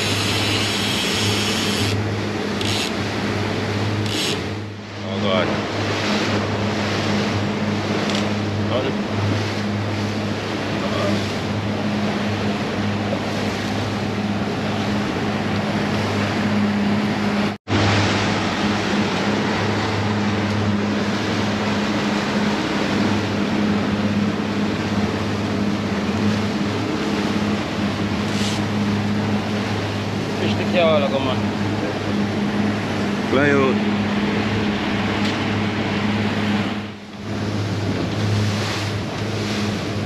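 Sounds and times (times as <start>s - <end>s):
boat wake rushing: 0.0s - 40.0s
outboard motors droning: 0.0s - 40.0s
wind: 0.0s - 40.0s.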